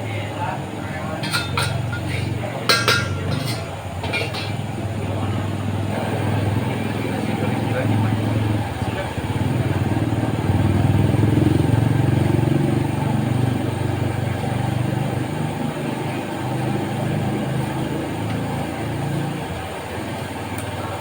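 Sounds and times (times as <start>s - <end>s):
small engine humming: 0.0s - 21.0s.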